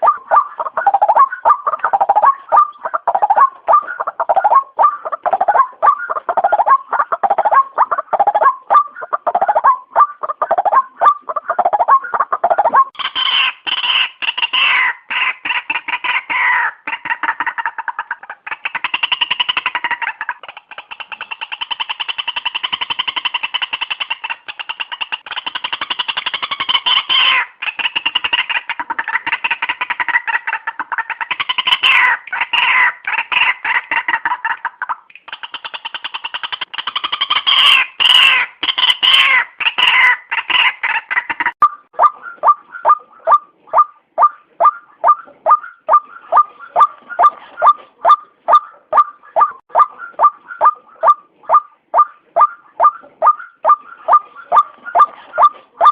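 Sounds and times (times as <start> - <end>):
waterhen calling: 0.0 - 55.9.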